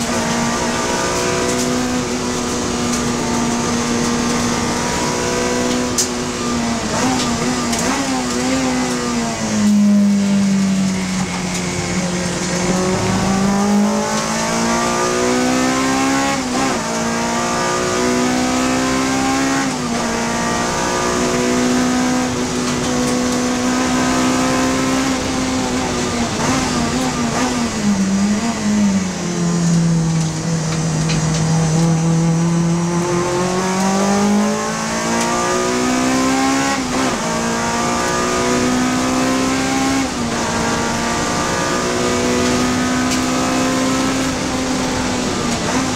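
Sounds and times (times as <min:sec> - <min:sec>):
race car engine accelerating: 0:00.0 - 0:45.9.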